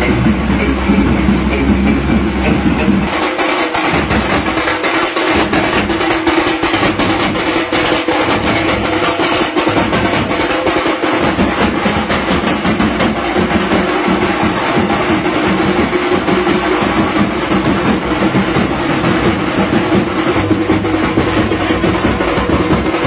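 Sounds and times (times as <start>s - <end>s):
music with fast dense drumming: 0.0s - 23.0s.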